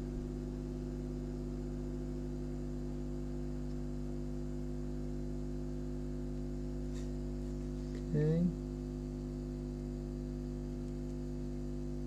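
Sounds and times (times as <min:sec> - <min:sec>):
cooling fan humming: 0:00.0 - 0:12.0.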